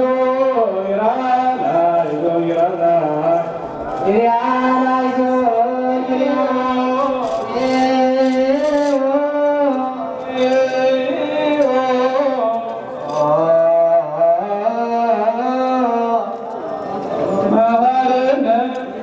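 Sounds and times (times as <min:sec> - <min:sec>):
lower voice chanting: 0:00.0 - 0:19.0
person chanting long held notes: 0:00.0 - 0:19.0.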